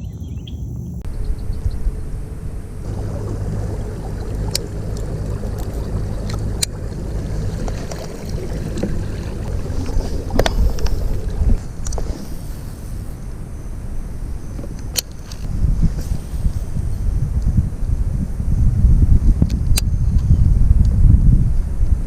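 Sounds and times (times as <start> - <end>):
low rumble: 0.0 - 21.6.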